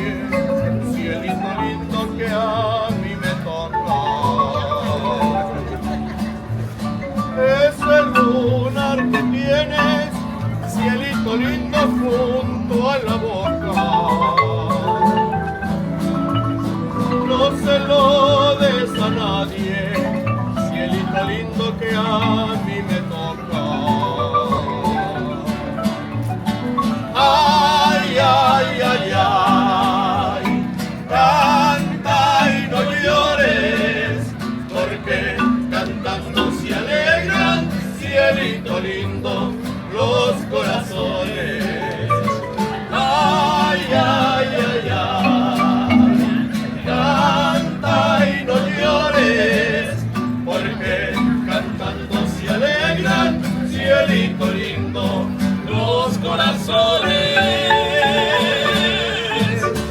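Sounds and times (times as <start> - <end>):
mariachi band playing: 0.0 - 59.9.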